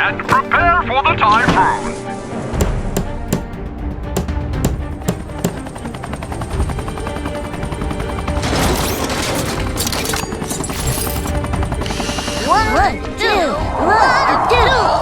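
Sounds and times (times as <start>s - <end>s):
cartoon background music: 0.0s - 15.0s.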